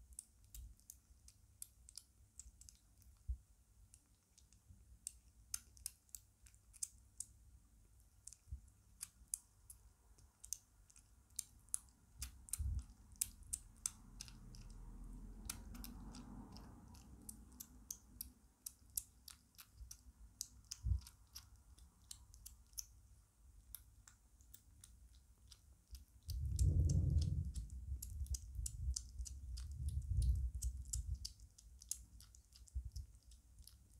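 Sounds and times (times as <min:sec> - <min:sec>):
kitten chewing wet food: 0:00.0 - 0:33.9.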